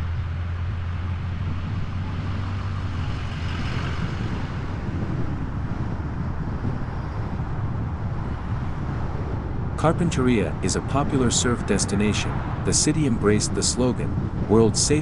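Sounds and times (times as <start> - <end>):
traffic noise: 0.0 - 15.0
wind on microphone: 0.0 - 15.0.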